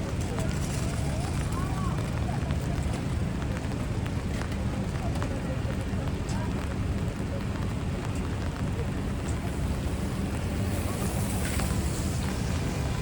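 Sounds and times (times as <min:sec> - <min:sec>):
rain on wet pavement: 0:00.0 - 0:13.0
traffic on wet street: 0:00.0 - 0:13.0.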